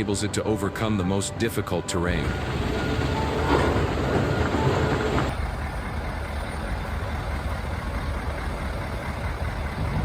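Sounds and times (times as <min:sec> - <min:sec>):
heavy vehicle diesel engine: 0:00.0 - 0:10.0
road noise: 0:00.0 - 0:10.0.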